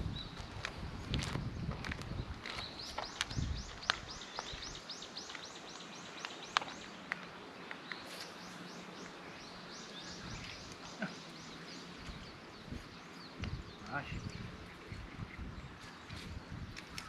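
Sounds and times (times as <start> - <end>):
bird chirping: 2.0 - 17.0.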